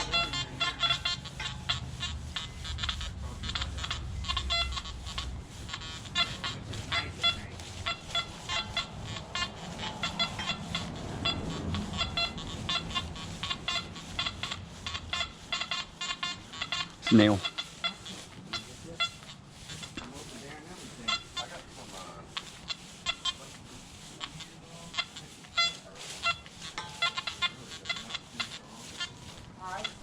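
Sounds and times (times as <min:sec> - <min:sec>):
metal detector beeps: 0:00.0 - 0:30.0.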